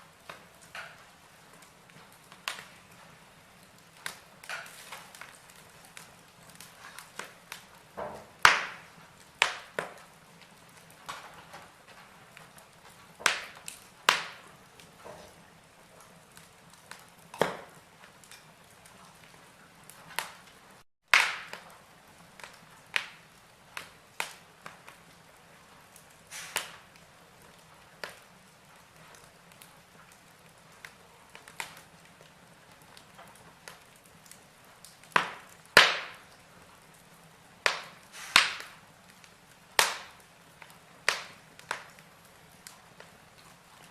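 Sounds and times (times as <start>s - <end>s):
fire crackling with pops: 0.0s - 43.9s
low hiss of fire: 0.0s - 43.9s.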